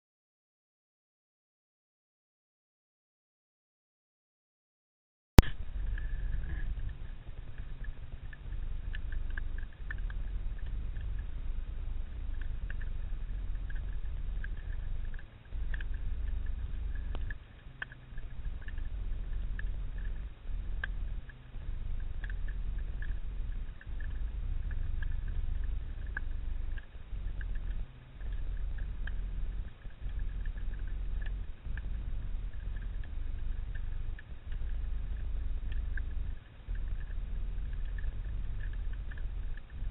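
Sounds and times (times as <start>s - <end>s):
fine crackle of underwater clicks: 5.4s - 39.9s.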